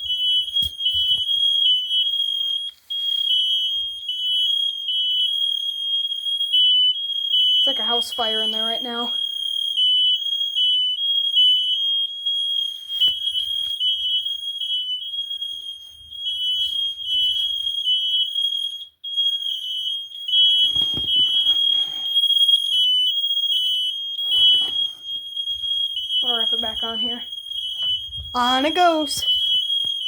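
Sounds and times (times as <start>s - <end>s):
smoke alarms beeping: 0.0s - 30.0s.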